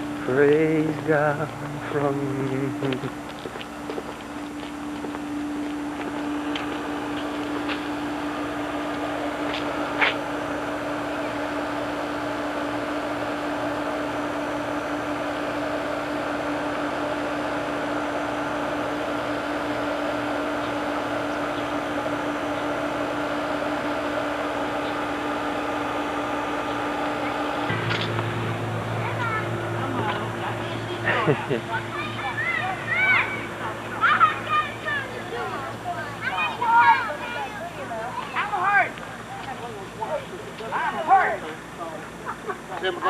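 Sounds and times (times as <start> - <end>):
steady hum and hiss: 0.0 - 43.0.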